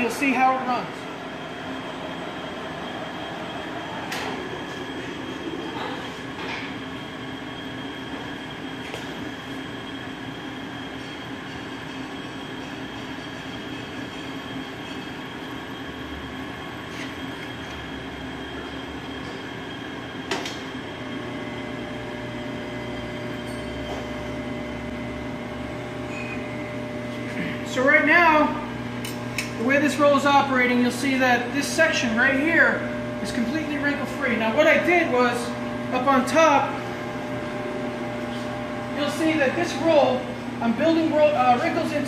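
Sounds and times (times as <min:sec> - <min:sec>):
roller machine whirring: 0:00.0 - 0:42.0.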